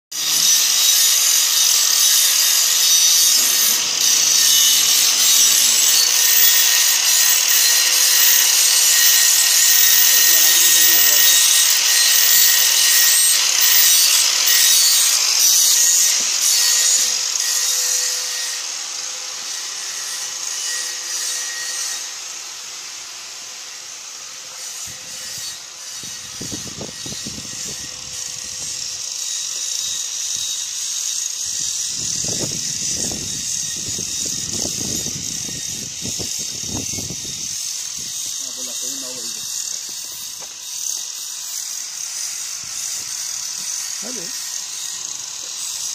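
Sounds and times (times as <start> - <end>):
angle grinder grinding steel: 0.1 - 45.9.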